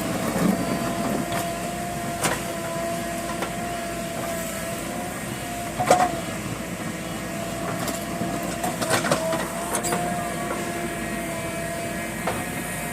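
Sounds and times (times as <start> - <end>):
backhoe loader running with whine: 0.0 - 12.9.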